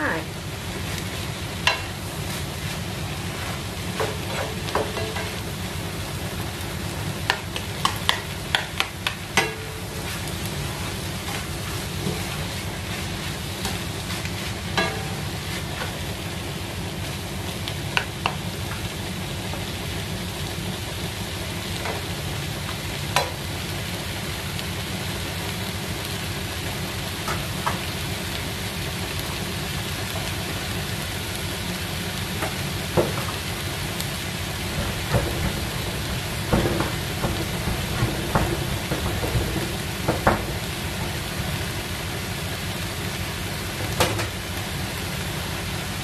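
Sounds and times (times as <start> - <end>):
vegetables sizzling in a frying pan: 0.0 - 46.0.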